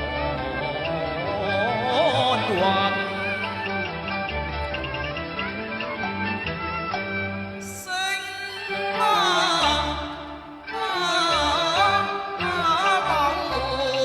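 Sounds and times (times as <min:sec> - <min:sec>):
person singing long wavering notes: 0:00.0 - 0:14.0.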